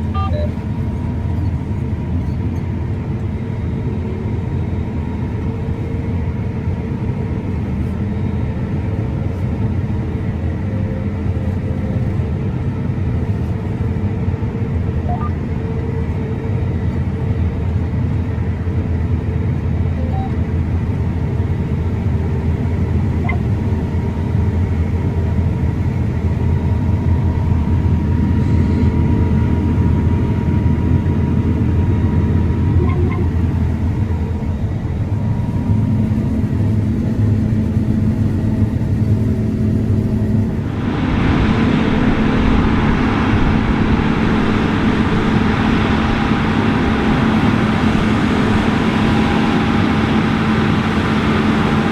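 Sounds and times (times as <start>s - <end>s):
combine harvester low drone: 0.0s - 51.9s
faint steady whine: 0.0s - 51.9s.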